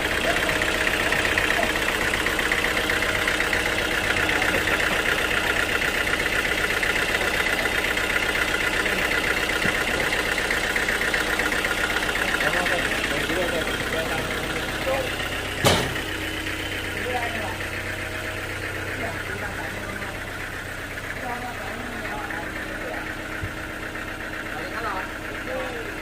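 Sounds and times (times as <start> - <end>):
sawmill machinery drone: 0.0 - 26.0.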